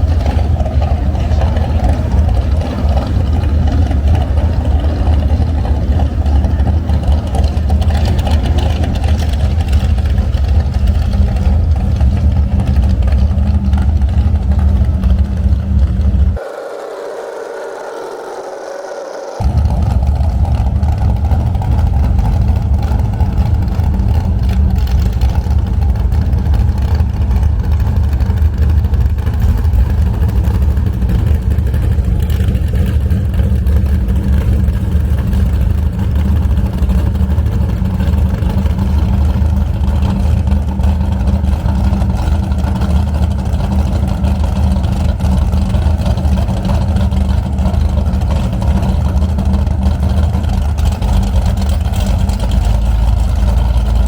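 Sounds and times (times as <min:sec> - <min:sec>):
motorboat engine drone: 0:00.0 - 0:54.0
rushing wind: 0:00.0 - 0:54.0
water rushing: 0:00.0 - 0:54.0.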